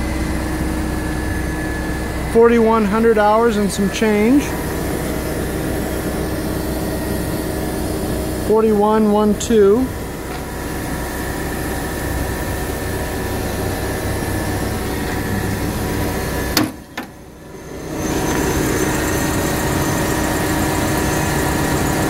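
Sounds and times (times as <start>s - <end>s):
forklift engine idling: 0.0s - 22.0s.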